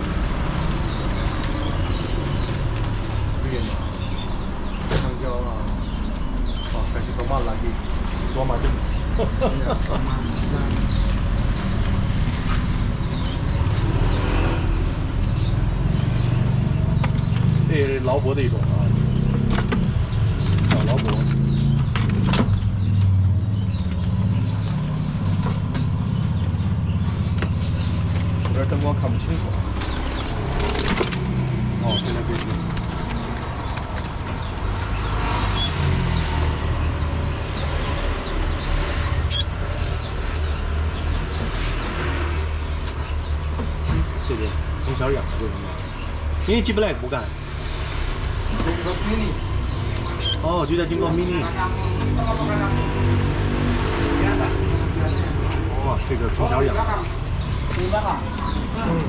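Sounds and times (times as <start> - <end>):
road traffic rumble: 0.0 - 59.0
songbirds chirping: 0.0 - 59.0.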